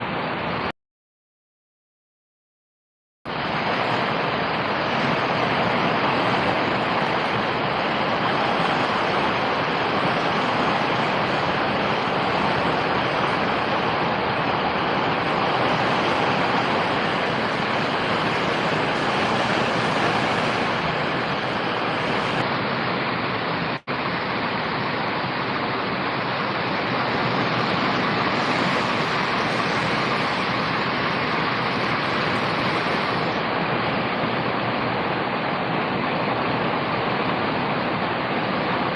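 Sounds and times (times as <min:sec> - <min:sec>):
steady rain falling: 0:03.3 - 0:38.9.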